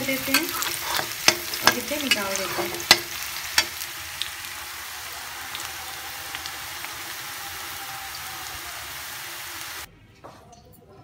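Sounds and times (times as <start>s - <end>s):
mushrooms sizzling in oil: 0.0s - 9.9s.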